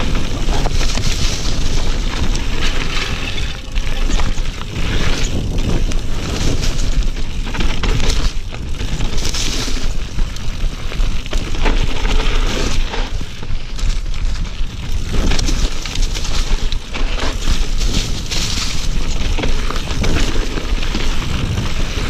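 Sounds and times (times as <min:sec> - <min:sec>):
bike clattering over bumps: 0:00.0 - 0:22.0
bike tyres rumbling on dirt: 0:00.0 - 0:22.0
wind buffeting microphone: 0:00.0 - 0:22.0.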